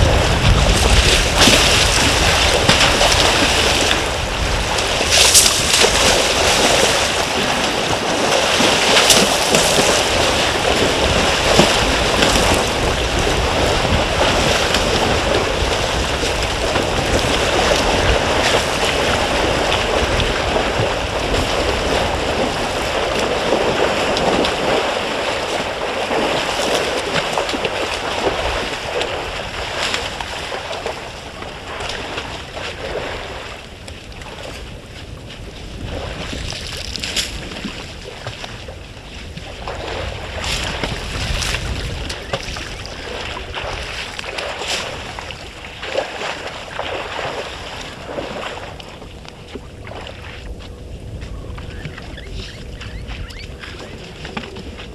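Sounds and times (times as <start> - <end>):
sharp splashes: 0.0 - 33.6, 39.2 - 50.5
water sloshing: 0.0 - 54.9.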